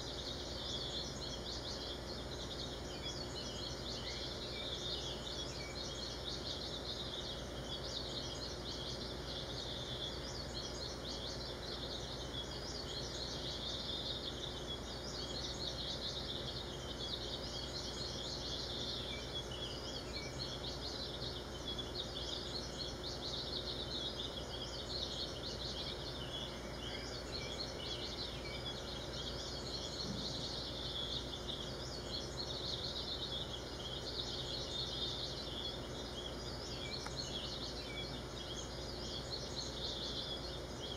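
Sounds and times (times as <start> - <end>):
chorus of high-pitched chirps: 0.0 - 40.9
low steady hum: 0.0 - 40.9.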